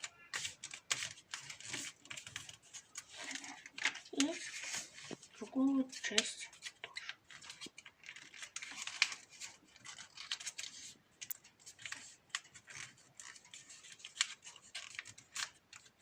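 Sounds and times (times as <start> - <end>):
paper being folded and crinkled: 0.0 - 16.0.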